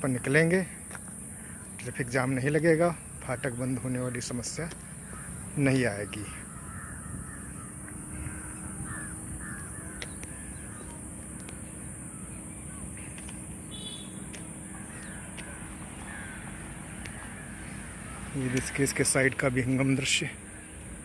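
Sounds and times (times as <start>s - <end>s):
crows cawing: 1.2s - 1.8s, 4.3s - 21.0s.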